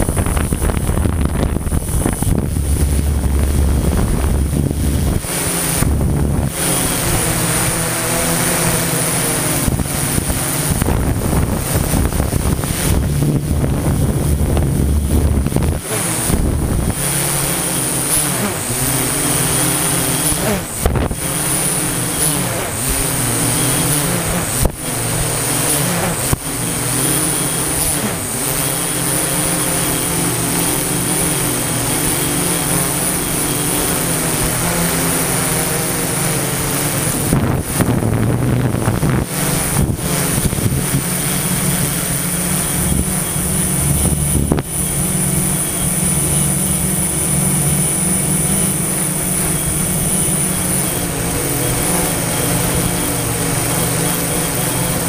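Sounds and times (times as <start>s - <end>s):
drone propellers humming: 0.0s - 55.0s.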